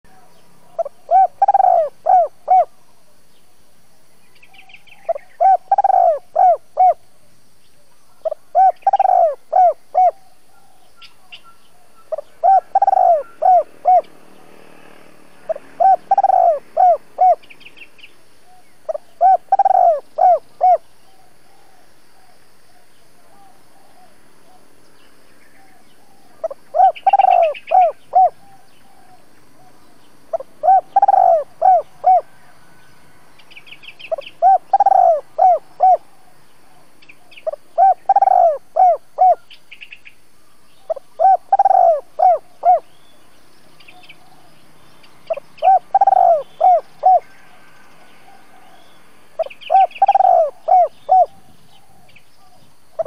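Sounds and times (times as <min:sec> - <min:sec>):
small birds chirping: 0:00.0 - 0:53.0
dove cooing: 0:00.1 - 0:02.8, 0:04.7 - 0:07.0, 0:08.2 - 0:14.6, 0:15.4 - 0:17.6, 0:18.4 - 0:24.7, 0:25.5 - 0:32.6, 0:33.7 - 0:39.6, 0:40.9 - 0:43.0, 0:45.3 - 0:53.0.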